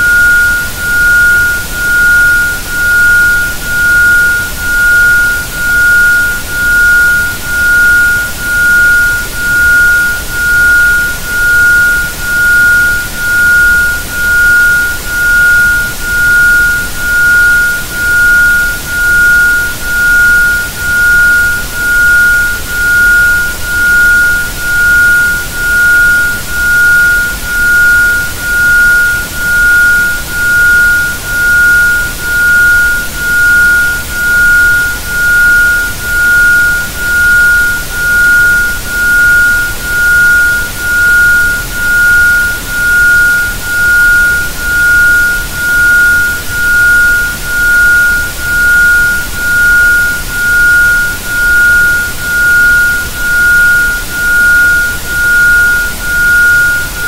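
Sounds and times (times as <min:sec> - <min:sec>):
pulsing pure tone: 0:00.0 - 0:57.0.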